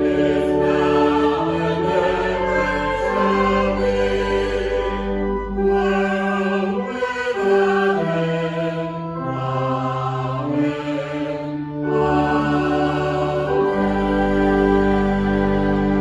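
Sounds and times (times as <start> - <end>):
slow solemn music of held chords: 0.0 - 16.0.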